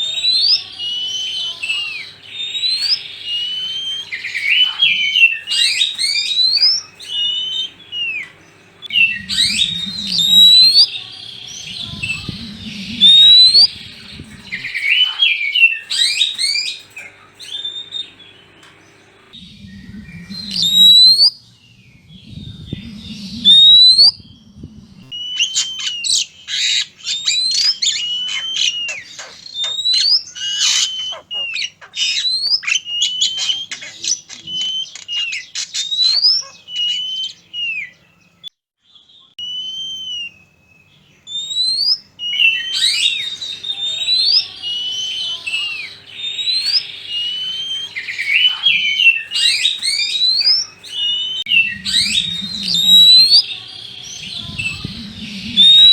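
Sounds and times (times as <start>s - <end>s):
rapid clicky bird chattering: 0.0s - 38.0s, 41.3s - 55.9s
birds singing whistled phrases: 0.0s - 55.9s.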